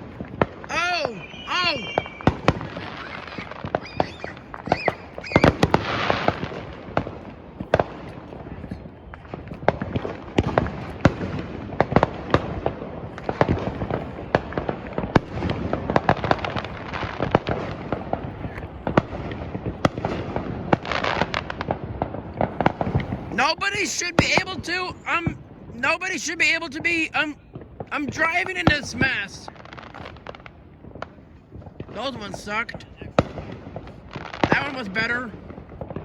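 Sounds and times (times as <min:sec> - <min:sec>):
fireworks bangs and pops: 0:00.0 - 0:36.0
fireworks crackling: 0:00.0 - 0:36.0.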